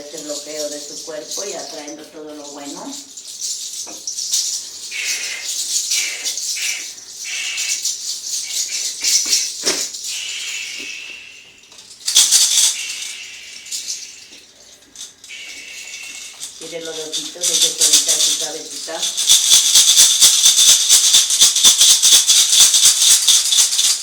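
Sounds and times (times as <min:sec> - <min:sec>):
herb bundle rattling and rustling: 0:00.0 - 0:24.0.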